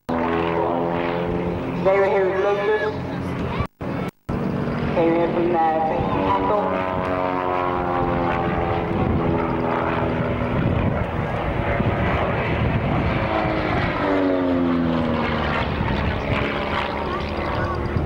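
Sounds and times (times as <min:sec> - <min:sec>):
propeller planes flying past: 0:00.0 - 0:18.0.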